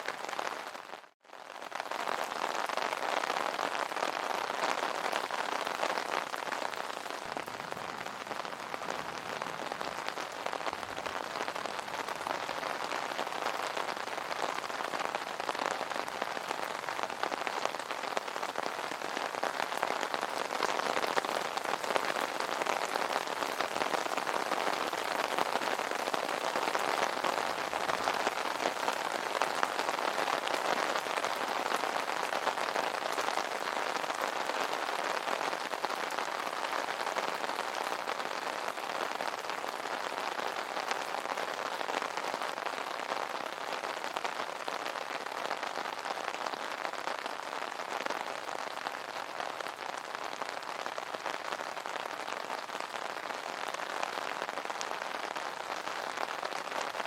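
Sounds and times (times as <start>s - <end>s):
rain on an umbrella: 0.0s - 57.0s.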